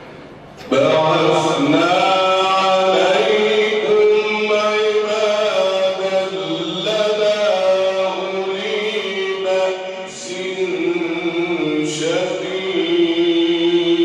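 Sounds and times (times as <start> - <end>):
man chanting melodically: 0.6 - 14.0.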